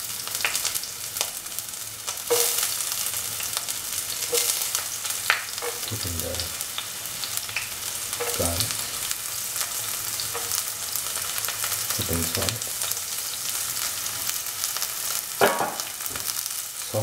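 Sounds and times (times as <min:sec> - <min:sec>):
onions frying in hot oil: 0:00.0 - 0:17.0.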